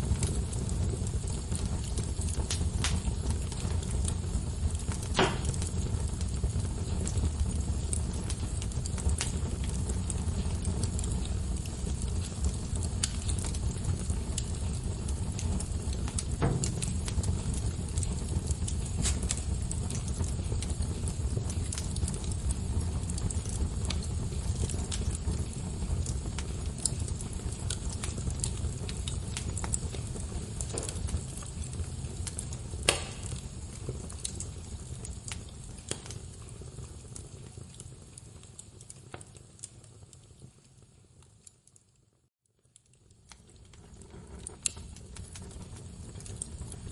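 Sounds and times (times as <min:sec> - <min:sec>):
logs crackling and popping: 0:00.0 - 0:46.9
low rumble of flames: 0:00.0 - 0:46.9.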